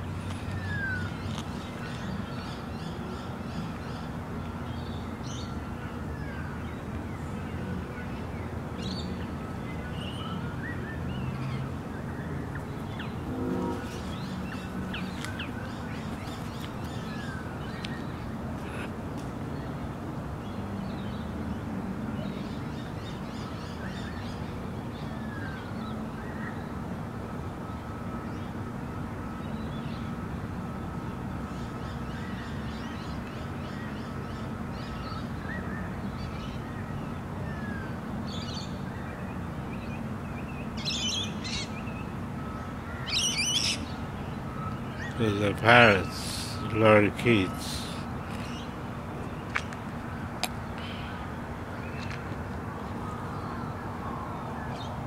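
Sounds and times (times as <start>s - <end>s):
birds calling and singing: 0.0s - 26.8s, 31.5s - 55.0s.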